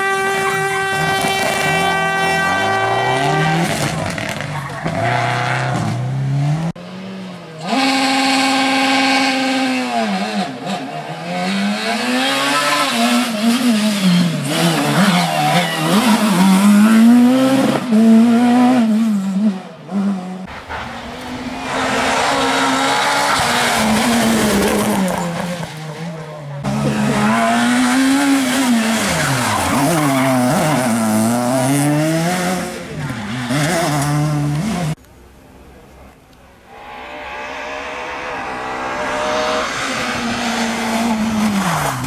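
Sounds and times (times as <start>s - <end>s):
rally car engines revving: 0.0s - 35.0s, 36.2s - 42.0s.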